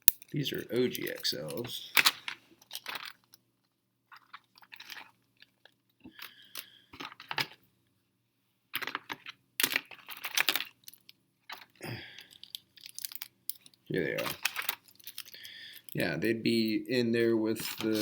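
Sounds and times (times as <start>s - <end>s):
small parts clicking and clattering: 0.0s - 7.7s, 8.7s - 16.0s, 17.6s - 18.0s.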